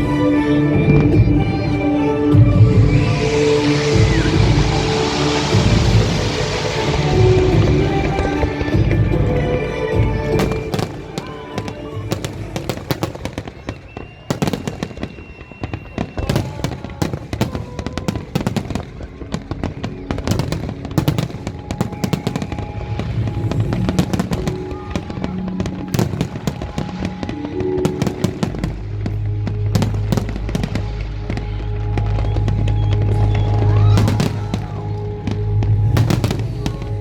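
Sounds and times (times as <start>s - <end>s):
fireworks bangs and crackles: 0.0s - 37.0s
music playing: 0.0s - 37.0s.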